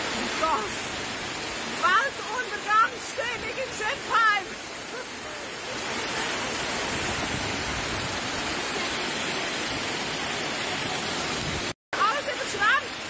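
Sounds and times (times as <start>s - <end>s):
heavy rain and hail pelting: 0.0s - 13.0s.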